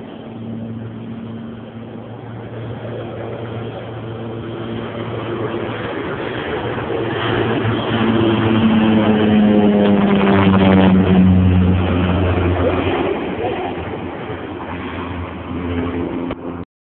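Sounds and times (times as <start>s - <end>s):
airplane engine droning: 0.0s - 16.7s.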